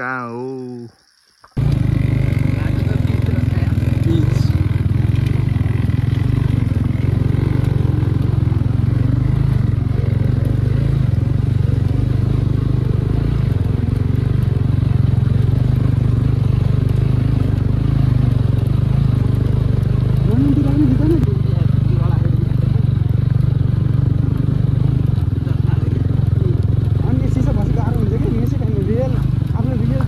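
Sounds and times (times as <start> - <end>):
motorcycle engine droning: 0.0 - 30.0.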